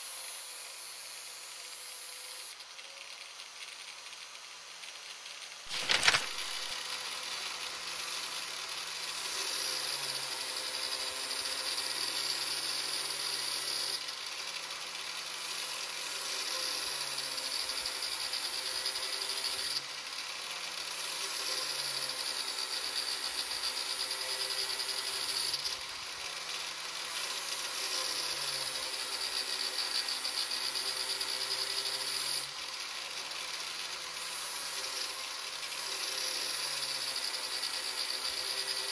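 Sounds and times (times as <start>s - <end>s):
angle grinder grinding blade: 0.0s - 38.9s.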